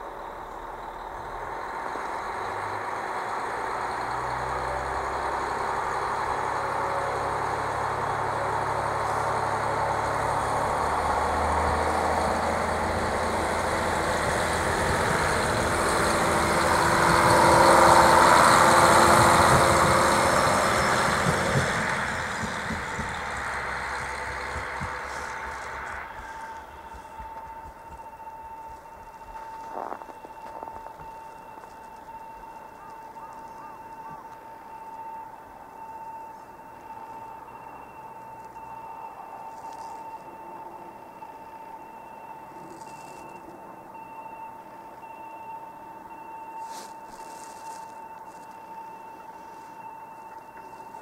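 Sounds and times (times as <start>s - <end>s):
diesel railcar engine accelerating: 0.0s - 51.0s.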